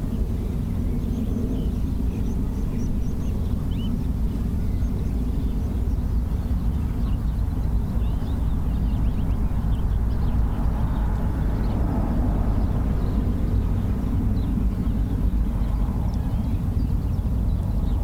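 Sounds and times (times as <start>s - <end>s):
outdoor low rumble: 0.0s - 18.0s.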